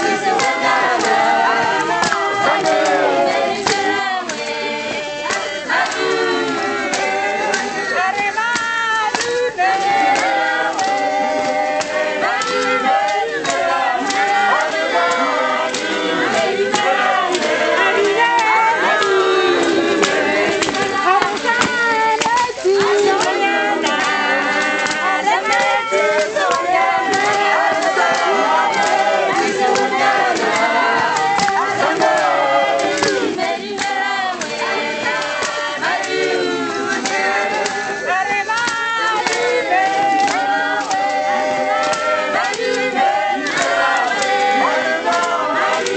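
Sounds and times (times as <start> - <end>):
choir singing: 0.0 - 45.9
sharp percussive strikes: 0.0 - 45.9.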